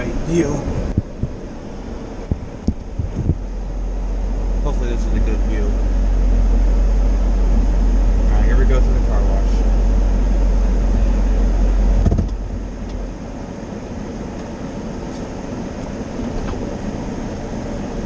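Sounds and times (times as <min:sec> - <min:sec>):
heavy low rumble: 0:00.0 - 0:18.0.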